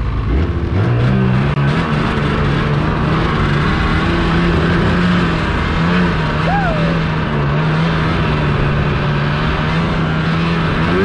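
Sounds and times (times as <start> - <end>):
snowmobile engine: 0.0 - 11.0.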